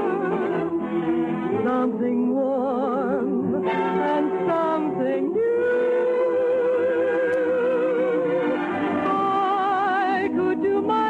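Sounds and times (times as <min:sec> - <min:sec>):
orchestra playing: 0:00.0 - 0:02.0, 0:03.6 - 0:11.0
voices singing with vibrato: 0:00.0 - 0:11.0.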